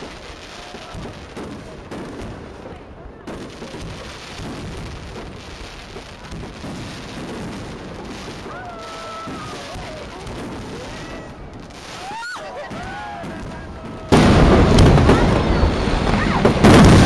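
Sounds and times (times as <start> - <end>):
fireworks crackling and booming: 0.0 - 17.0.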